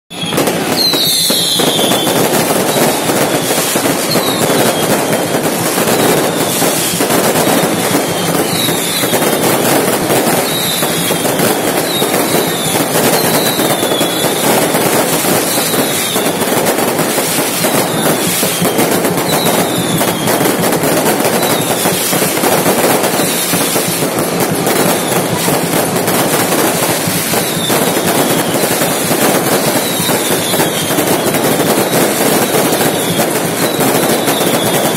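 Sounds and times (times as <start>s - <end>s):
firecrackers crackling: 0.1s - 34.9s
fireworks falling whistles: 0.1s - 34.9s.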